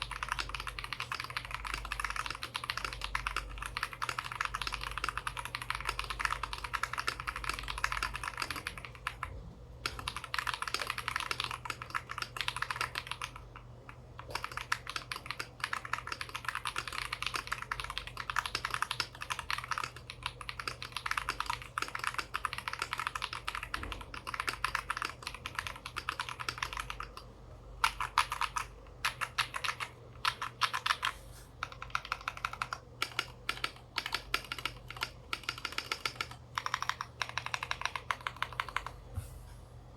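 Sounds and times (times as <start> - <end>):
mechanical keyboard typing: 0.0 - 39.0.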